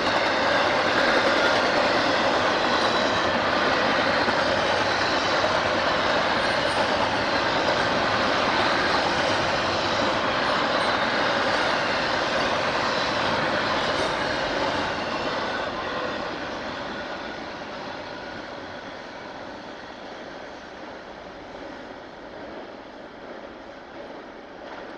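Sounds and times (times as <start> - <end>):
train wheels rolling on rails: 0.0 - 24.9.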